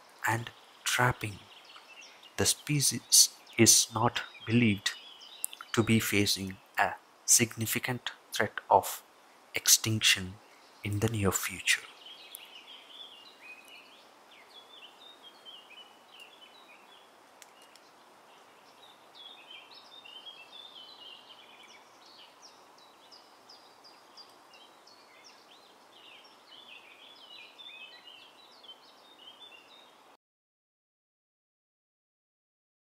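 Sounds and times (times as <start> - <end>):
small birds chirping: 0.0 - 30.2
steady background hiss: 0.0 - 30.2.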